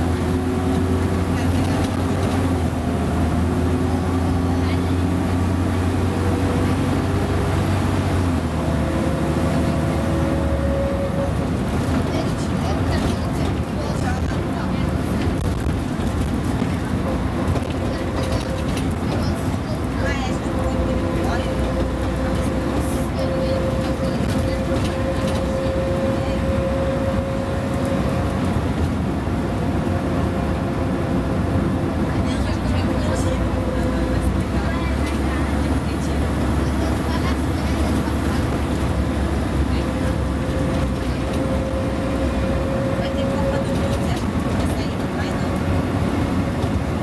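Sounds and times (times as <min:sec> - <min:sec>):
bus diesel engine drone: 0:00.0 - 0:47.0.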